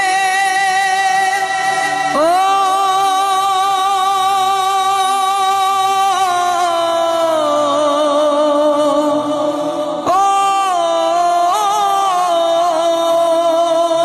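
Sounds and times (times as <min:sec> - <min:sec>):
person singing unaccompanied: 0:00.0 - 0:14.0.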